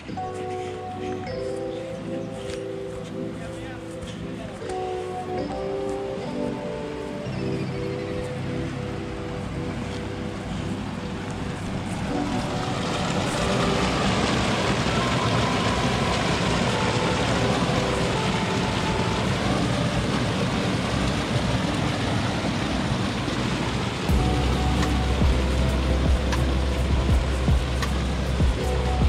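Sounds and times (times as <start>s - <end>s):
rushing river water: 0.0s - 29.0s.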